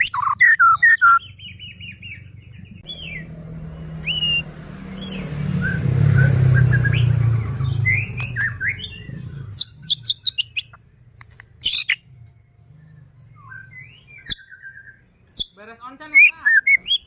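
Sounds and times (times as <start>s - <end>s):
songbird whistling and rattling: 0.0s - 2.3s, 4.0s - 4.4s, 5.0s - 17.0s.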